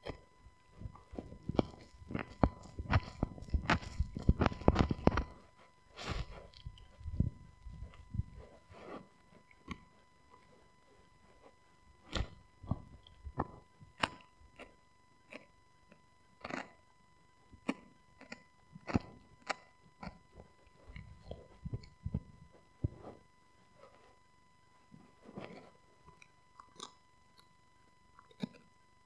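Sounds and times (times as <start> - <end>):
dog chewing with crunching: 0.0 - 16.8, 17.5 - 24.1, 25.0 - 27.5, 28.1 - 28.7.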